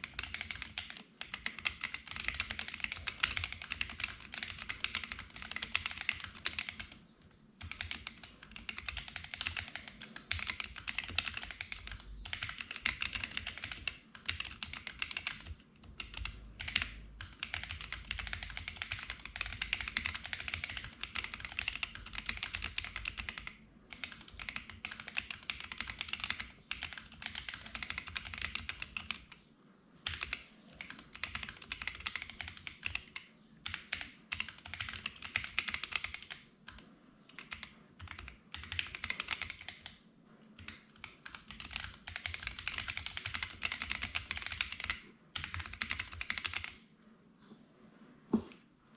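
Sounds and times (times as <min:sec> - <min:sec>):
typing on mechanical keyboard: 0:00.0 - 0:29.4, 0:30.0 - 0:46.8.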